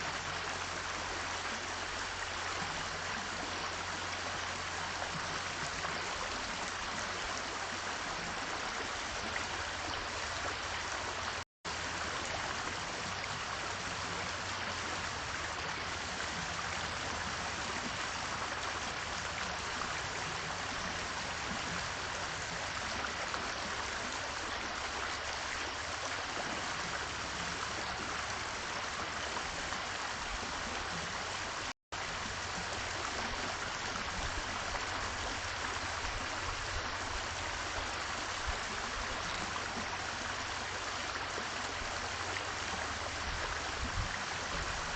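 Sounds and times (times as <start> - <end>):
rushing water: 0.0 - 44.9.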